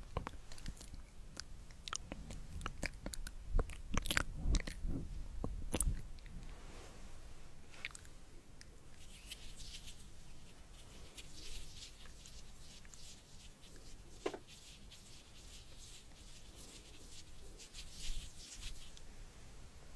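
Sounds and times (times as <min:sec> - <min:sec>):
soft crisp crackles and clicks: 0:00.0 - 0:19.2.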